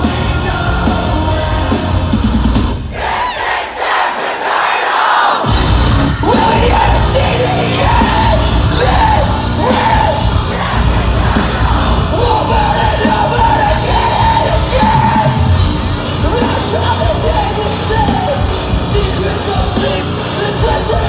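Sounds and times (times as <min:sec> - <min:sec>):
metal band playing live: 0:00.0 - 0:03.0, 0:05.4 - 0:21.0
fans yelling: 0:02.7 - 0:21.0.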